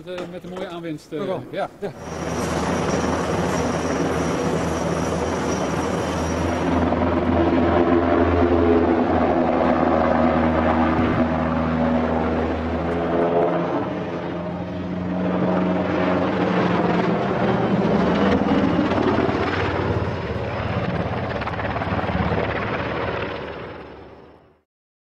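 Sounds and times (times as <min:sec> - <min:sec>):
helicopter passing overhead: 0:00.0 - 0:24.6.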